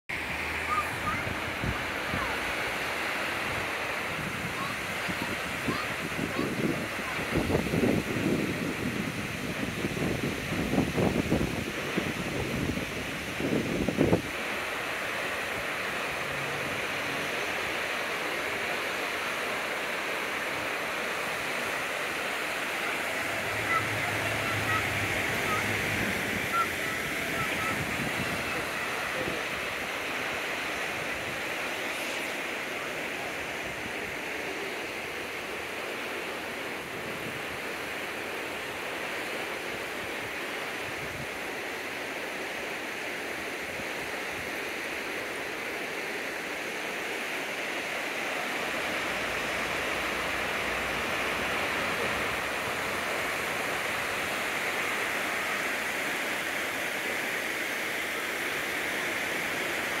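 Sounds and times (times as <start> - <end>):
water rushing over dam: 0.1 - 60.0.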